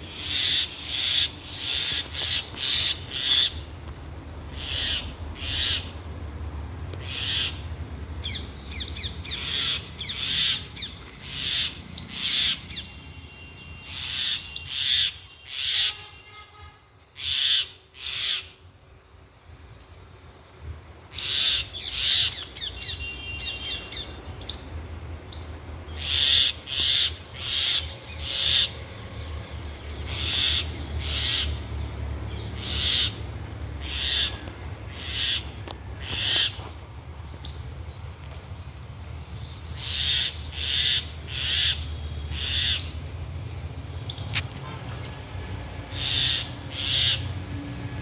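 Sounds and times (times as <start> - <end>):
birds giving harsh alarm calls: 0.0 - 3.7, 4.4 - 6.0, 7.0 - 16.1, 17.2 - 18.6, 21.1 - 24.6, 25.3 - 36.8, 39.4 - 47.5.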